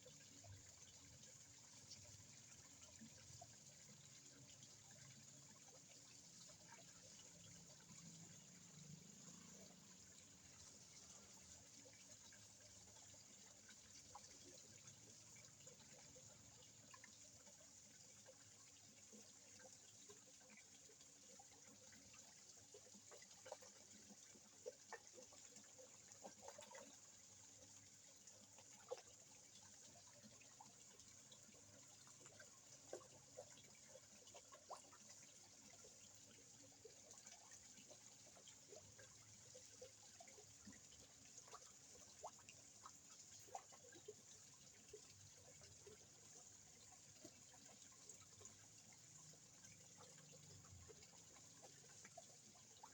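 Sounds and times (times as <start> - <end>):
faint trickle of water: 0.0 - 52.9.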